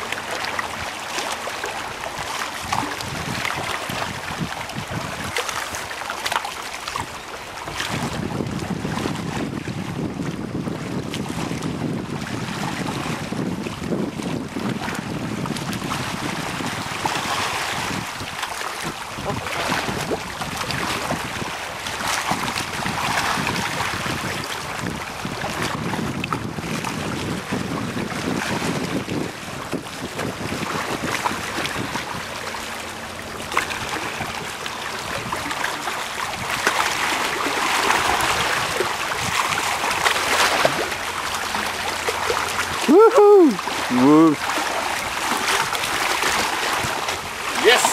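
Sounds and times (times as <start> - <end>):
sea waves washing on rocks: 0.0 - 47.9
wind buffeting microphone: 1.8 - 6.0, 6.9 - 47.9.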